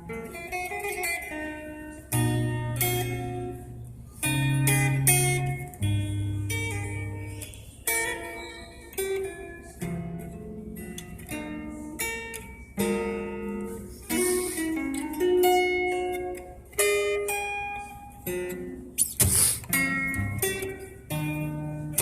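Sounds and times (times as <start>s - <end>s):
acoustic guitar plucked slowly: 0.0s - 22.0s.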